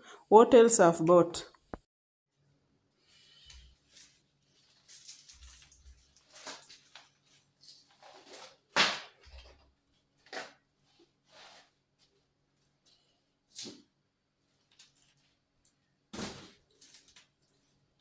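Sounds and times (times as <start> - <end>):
rustling of grocery bags: 3.0 - 13.8, 14.4 - 18.0.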